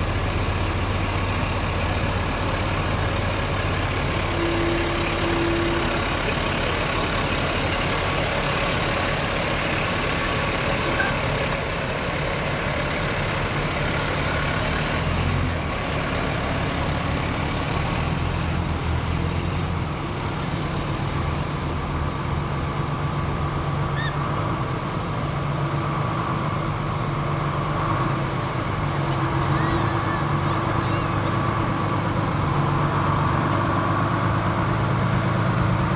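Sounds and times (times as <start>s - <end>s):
fire truck engines droning: 0.0s - 35.9s.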